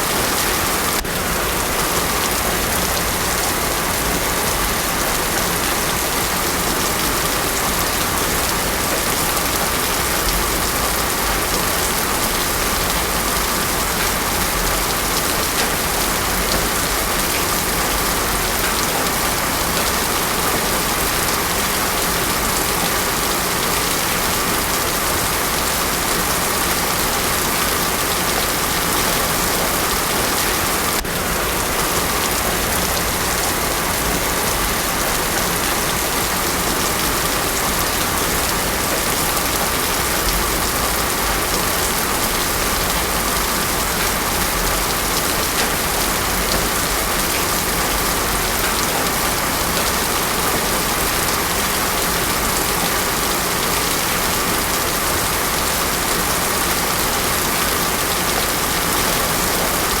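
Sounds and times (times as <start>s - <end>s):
heavy rain on a road: 0.0s - 60.0s.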